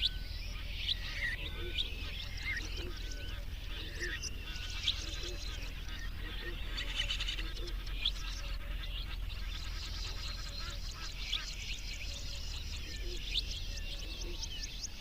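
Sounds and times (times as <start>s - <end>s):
birds chirping and chattering: 0.0s - 15.0s.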